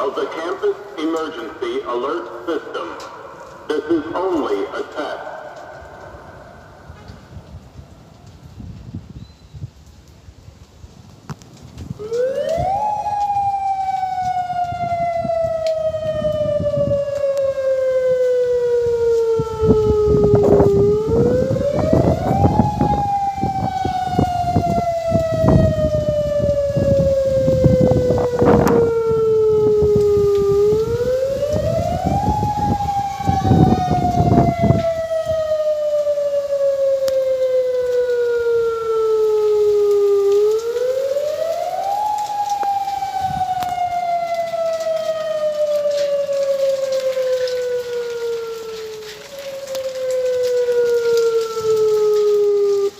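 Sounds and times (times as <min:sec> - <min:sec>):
rushing crackling noise: 0:00.0 - 0:52.9
warning siren rising and falling: 0:03.0 - 0:07.8, 0:11.9 - 0:52.9.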